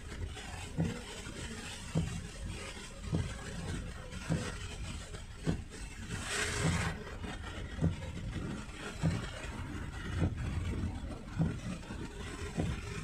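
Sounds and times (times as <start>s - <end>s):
car engine and road rumble: 0.0s - 13.0s
heavy rain: 0.0s - 13.0s
windshield wipers thudding: 0.2s - 13.0s.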